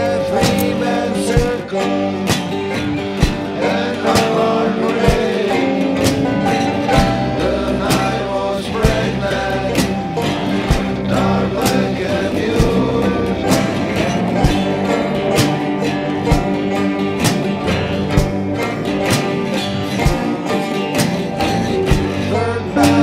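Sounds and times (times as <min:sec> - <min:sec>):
song with singing and guitar: 0:00.0 - 0:23.0.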